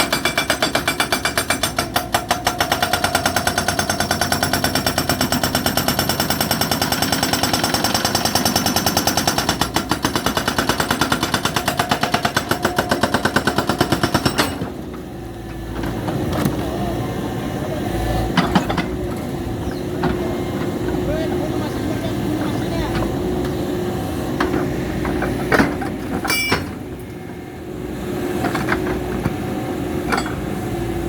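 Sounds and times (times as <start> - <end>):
hydraulic rock breaker hammering: 0.0 - 27.1.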